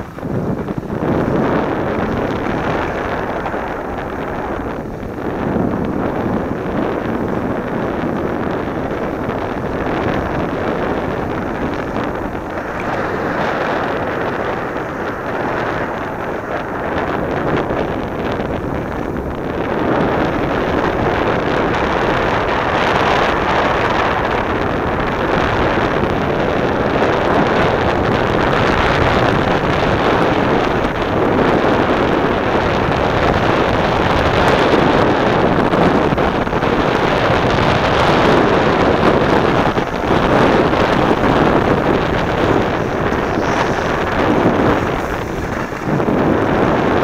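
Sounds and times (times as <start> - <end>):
skis scraping over snow: 0.0 - 47.0
wind buffeting microphone: 0.0 - 47.0.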